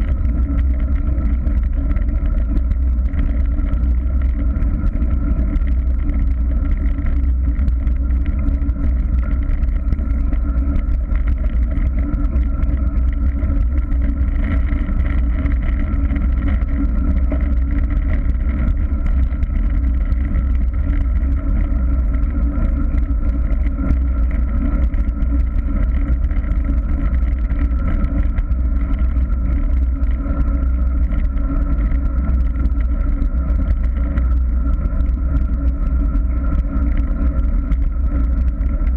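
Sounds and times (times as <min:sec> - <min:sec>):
bicycle tyre hum on asphalt: 0:00.0 - 0:38.9
wind rumble on microphone: 0:00.0 - 0:38.9.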